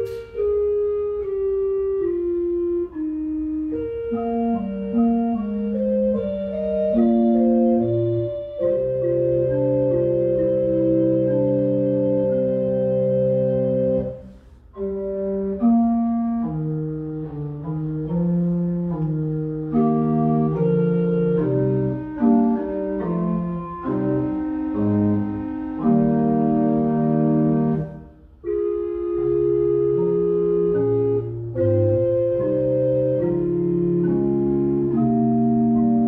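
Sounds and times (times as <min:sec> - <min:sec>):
church organ chords: 0:00.0 - 0:36.0.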